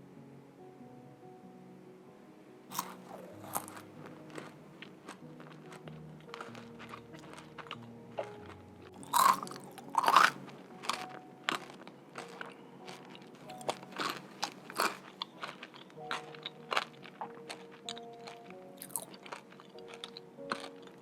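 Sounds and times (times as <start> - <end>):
chewing with crisp crunches: 2.7 - 21.0
crunchy cookie bites: 2.7 - 21.0.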